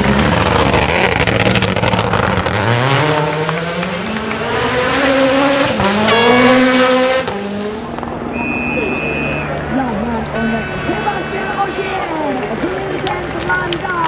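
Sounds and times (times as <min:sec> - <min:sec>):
rally car engine accelerating: 0:00.0 - 0:14.0
tyres on gravel: 0:00.0 - 0:14.0.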